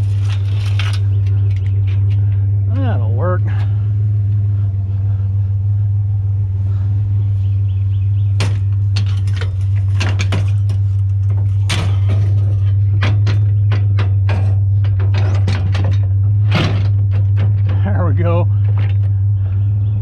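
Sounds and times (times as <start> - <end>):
metal rails clanking: 0.0 - 4.5, 8.3 - 20.0
pickup truck engine idling: 0.0 - 20.0.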